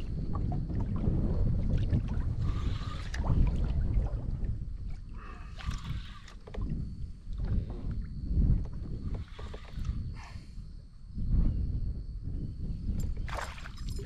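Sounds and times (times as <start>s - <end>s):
water lapping around kayak: 0.0s - 10.6s, 13.0s - 14.0s
wind rumbling on microphone: 0.0s - 14.0s.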